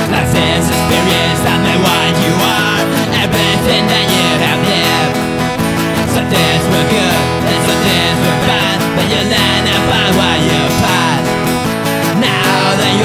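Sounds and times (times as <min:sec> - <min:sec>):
acoustic guitar strummed: 0:00.0 - 0:13.0.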